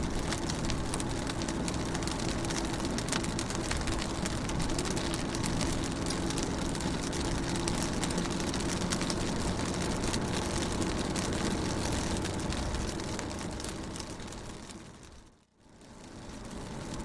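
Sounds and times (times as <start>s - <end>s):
low engine-like hum: 0.0s - 17.0s
rain hitting car window: 0.0s - 17.0s.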